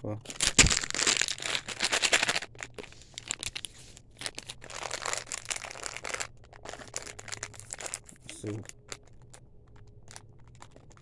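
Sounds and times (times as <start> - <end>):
plastic candy wrapper crinkling: 0.1 - 11.0.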